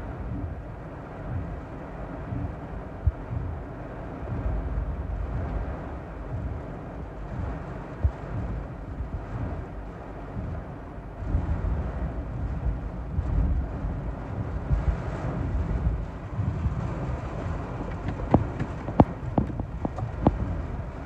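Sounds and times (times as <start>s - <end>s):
deep rumbling: 0.0s - 21.0s
heavy rain on car roof: 0.0s - 21.0s.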